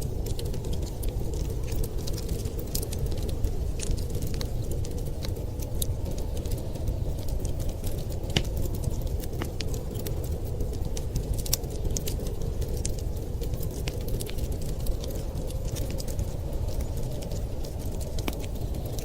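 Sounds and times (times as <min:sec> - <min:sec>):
storm wind rumbling: 0:00.0 - 0:19.0
wood fire crackling and popping: 0:00.0 - 0:19.0.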